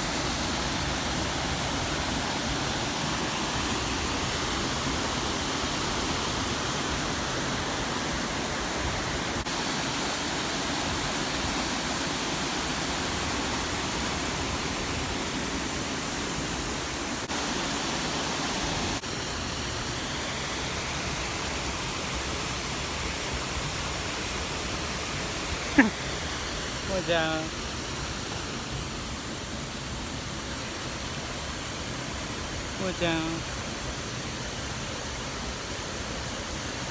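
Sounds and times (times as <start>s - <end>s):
waterfall roar: 0.0s - 36.9s.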